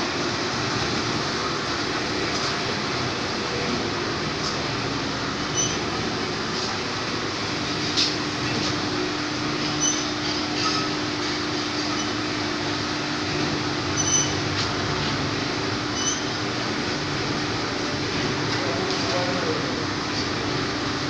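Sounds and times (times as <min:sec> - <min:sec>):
machine running with low hum: 0:00.0 - 0:21.0.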